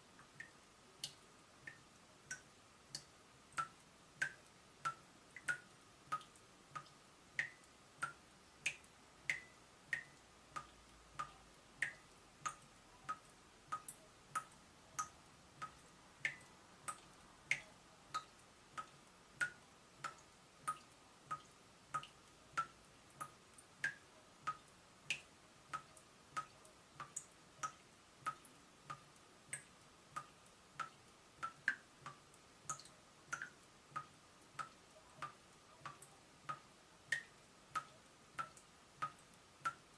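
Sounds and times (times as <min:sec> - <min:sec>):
water dripping from a tap: 0:00.2 - 0:39.9.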